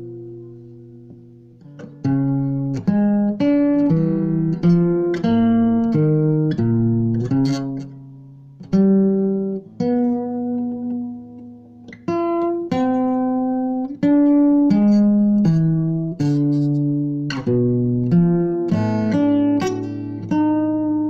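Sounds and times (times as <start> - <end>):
plucked guitar-like melody: 0.0 - 21.0.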